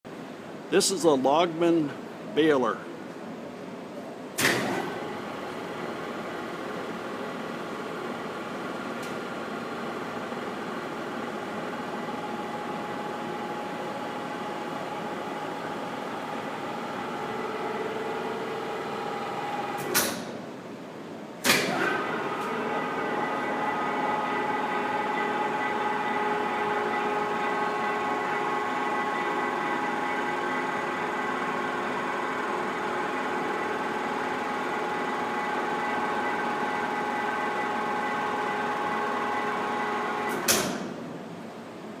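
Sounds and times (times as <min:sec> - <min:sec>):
hydraulic baler humming: 0:04.4 - 0:20.3, 0:21.4 - 0:41.0.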